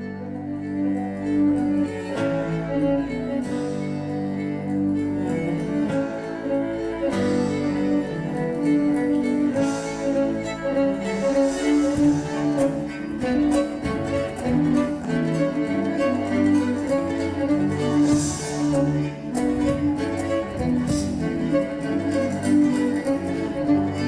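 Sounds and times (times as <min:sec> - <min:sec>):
bass: 0:00.0 - 0:24.0
cello: 0:00.0 - 0:24.0
guitar: 0:00.0 - 0:24.0
violin: 0:00.0 - 0:24.0.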